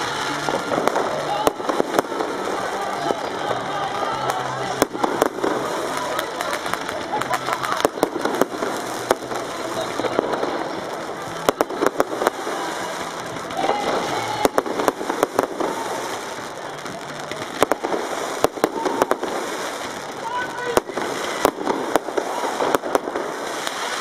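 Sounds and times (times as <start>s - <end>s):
fireworks bangs and crackles: 0.0s - 24.0s
steady noisy background: 0.0s - 24.0s.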